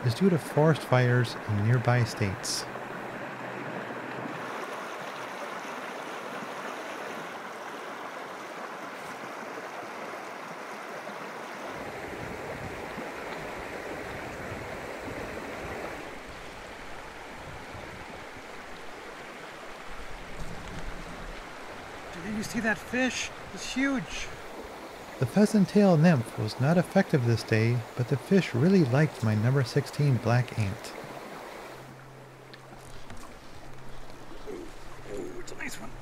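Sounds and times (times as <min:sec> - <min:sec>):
stream flowing: 0:00.0 - 0:36.0.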